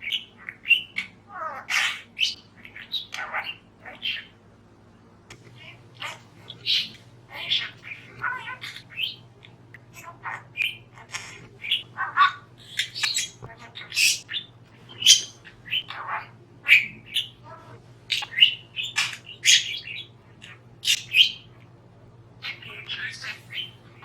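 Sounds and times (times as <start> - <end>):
budgerigar chattering: 0.0 - 4.4, 5.6 - 9.3, 9.9 - 21.5, 22.4 - 24.0.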